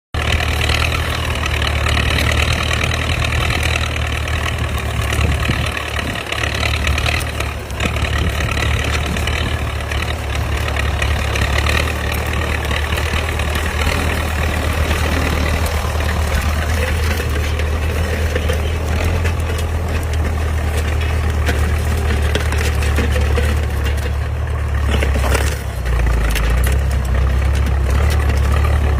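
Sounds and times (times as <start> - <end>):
tractor engine droning: 0.1 - 28.9.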